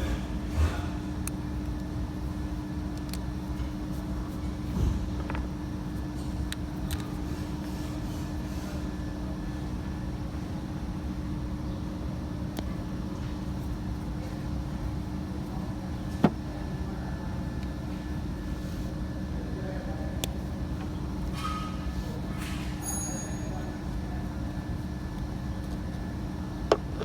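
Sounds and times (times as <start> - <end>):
low mechanical drone: 0.0 - 27.0.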